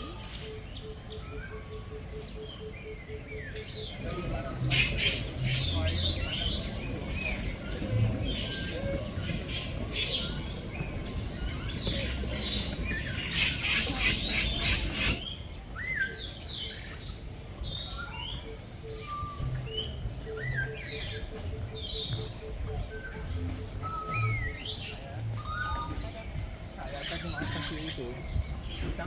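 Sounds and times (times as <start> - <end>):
birds chattering: 0.0 - 29.0
birds chirping and whistling: 0.0 - 29.0.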